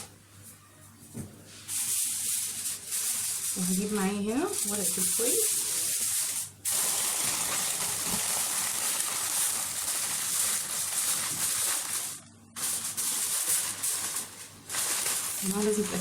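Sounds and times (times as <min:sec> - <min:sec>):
aluminium foil crinkling: 0:01.7 - 0:16.0.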